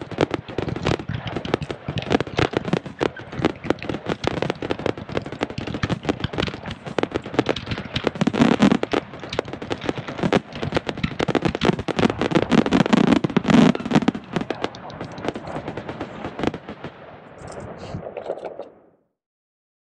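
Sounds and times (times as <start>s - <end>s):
fireworks bangs and crackling: 0.0s - 18.4s.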